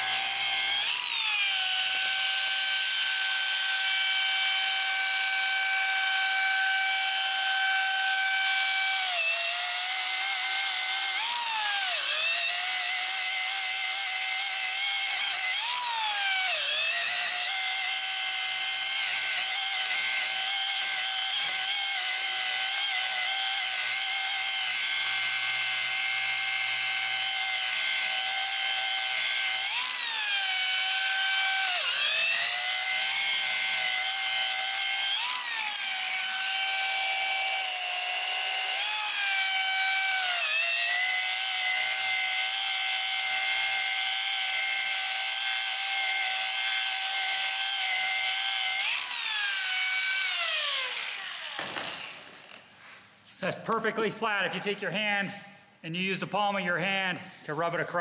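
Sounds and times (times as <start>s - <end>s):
angle grinder sanding whine: 0.0s - 58.0s.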